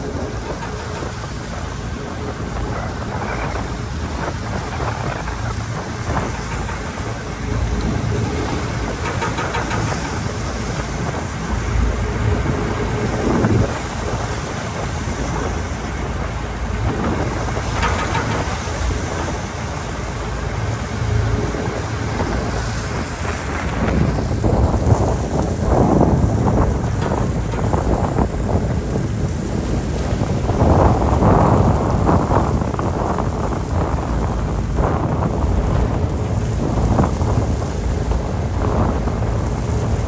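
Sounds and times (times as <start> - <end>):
low rumble: 0.0 - 40.0
water rushing along hull: 0.0 - 40.0
wind buffeting microphone: 0.0 - 40.0.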